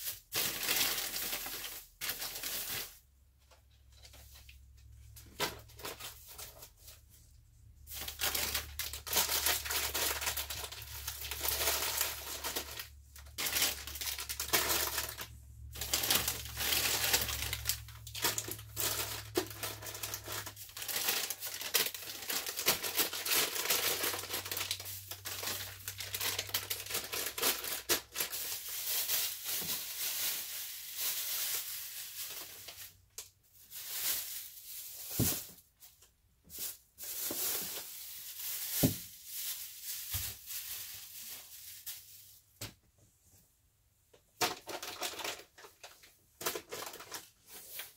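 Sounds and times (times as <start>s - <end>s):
plastic wrappers crinkling: 0.0s - 42.6s, 44.4s - 47.9s.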